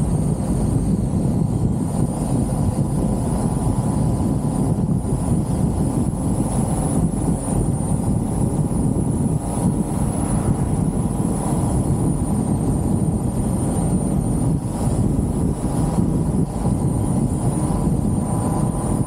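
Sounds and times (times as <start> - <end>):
car engine and road noise: 0.0 - 19.0
high-pitched whine: 0.0 - 19.0
wind buffeting microphone: 0.0 - 19.0.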